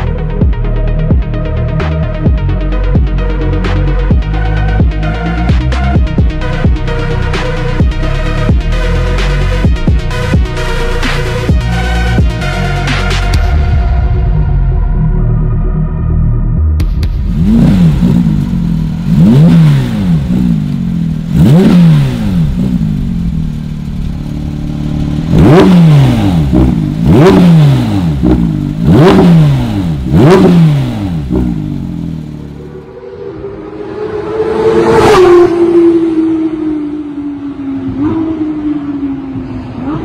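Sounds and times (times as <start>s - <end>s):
car engine revving blips: 0.0s - 15.6s, 16.4s - 40.0s
steady engine note: 0.0s - 40.0s.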